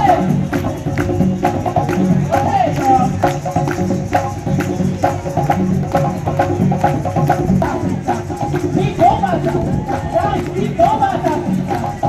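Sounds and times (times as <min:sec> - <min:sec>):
conga drums: 0:00.0 - 0:12.0.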